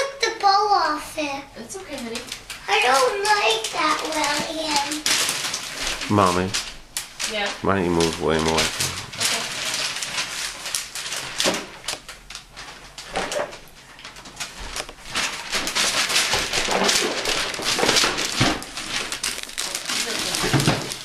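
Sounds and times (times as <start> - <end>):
gift wrapping crinkling: 1.7 - 21.0.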